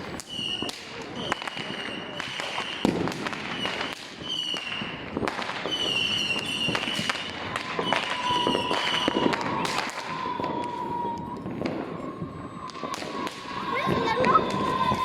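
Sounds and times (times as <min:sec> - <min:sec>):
firework bangs and crackles: 0:00.0 - 0:15.0
firework whistles: 0:00.0 - 0:15.0
lower firework whistle: 0:00.0 - 0:15.0.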